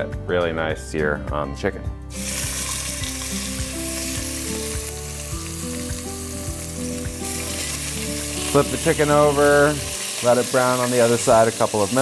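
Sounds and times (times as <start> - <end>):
chicken sizzling in hot oil: 2.1 - 12.0.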